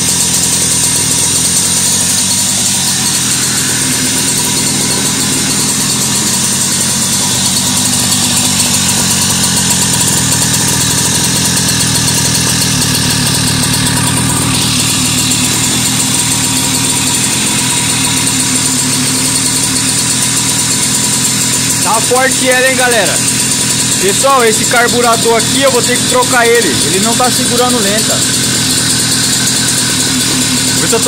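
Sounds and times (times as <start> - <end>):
two-stroke moped engine running: 0.0 - 31.0.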